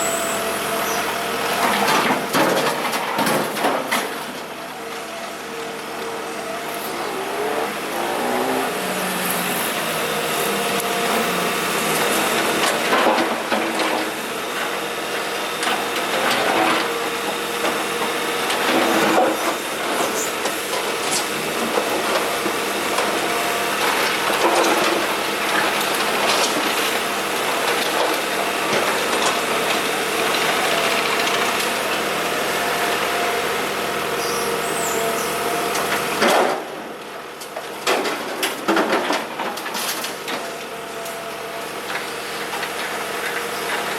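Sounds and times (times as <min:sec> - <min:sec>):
excavator engine working: 0:00.0 - 0:43.9.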